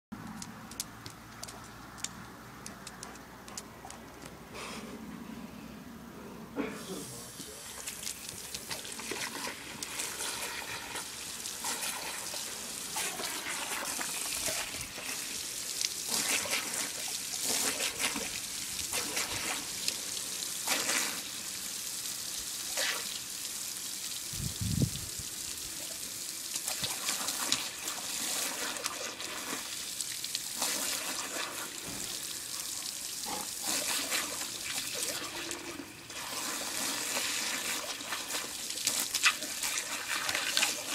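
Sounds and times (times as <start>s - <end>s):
garden hose spraying water: 6.8s - 40.9s.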